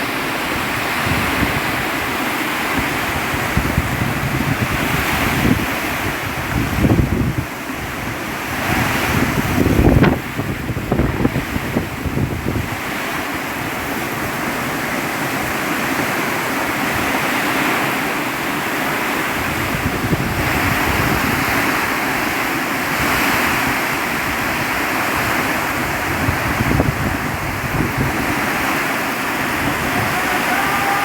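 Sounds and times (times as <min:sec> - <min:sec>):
heavy rain in strong wind: 0:00.0 - 0:31.0.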